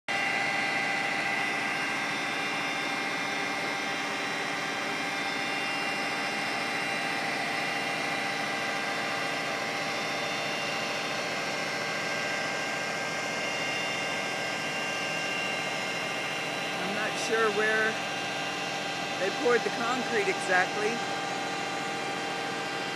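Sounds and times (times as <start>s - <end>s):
blower running: 0.1s - 22.9s
steady whining tones: 1.4s - 22.9s.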